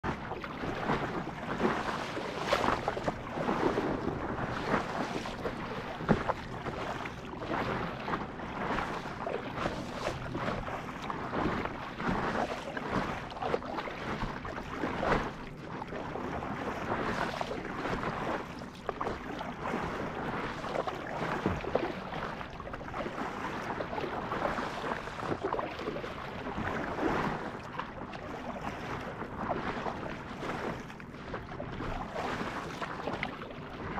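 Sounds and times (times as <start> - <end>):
water splashing against board: 0.0 - 33.8
paddle dipping in water: 0.0 - 33.9.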